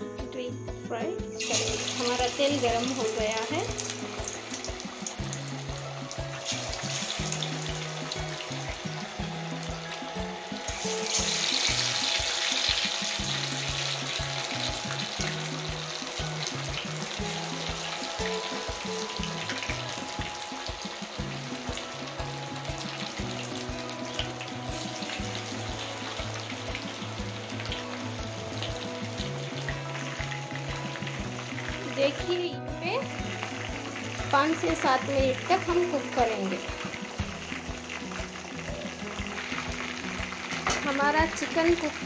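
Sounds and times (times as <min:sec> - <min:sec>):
food deep-frying in oil: 0:01.3 - 0:42.0.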